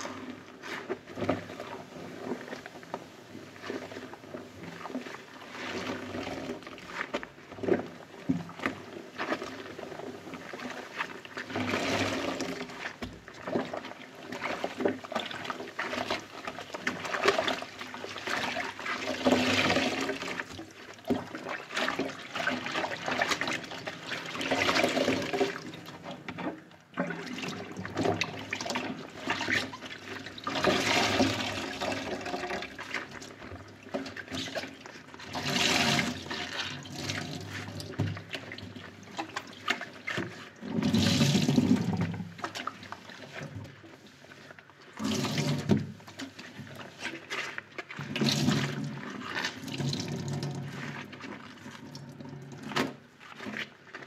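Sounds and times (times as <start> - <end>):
sponge squelching in sudsy water: 0.0 - 54.0.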